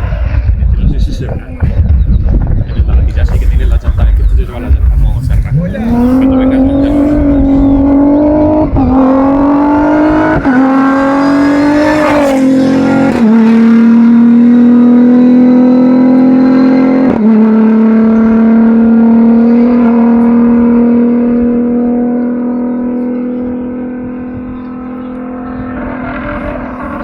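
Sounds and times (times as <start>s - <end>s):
car engine at high revs shifting: 3.1s - 27.0s.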